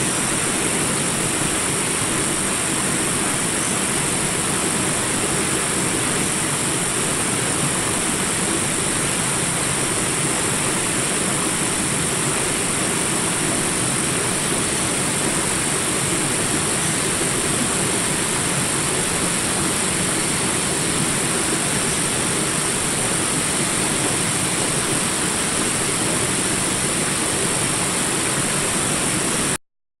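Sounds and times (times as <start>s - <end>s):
water rushing over rapids: 0.0s - 29.6s.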